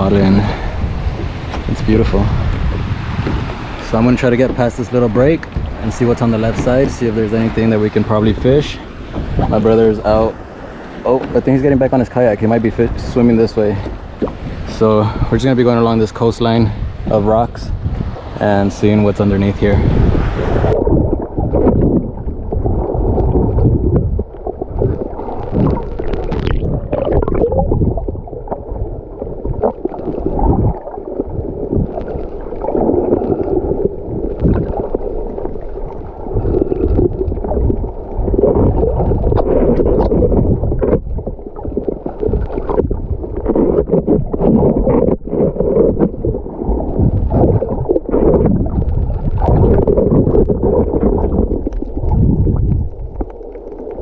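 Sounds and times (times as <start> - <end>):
underwater gurgling and sloshing: 0.0 - 54.0.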